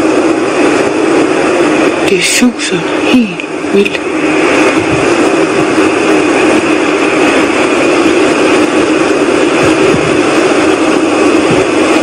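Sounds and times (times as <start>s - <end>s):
whooshing drone from the sky: 0.0s - 12.0s.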